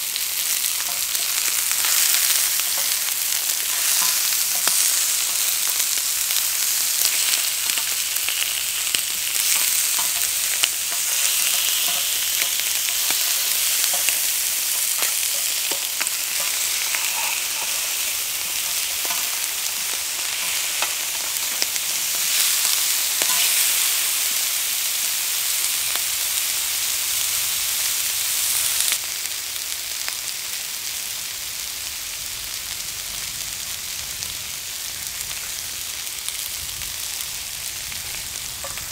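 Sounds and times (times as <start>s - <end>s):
chicken sizzling on a griddle: 0.0s - 38.9s.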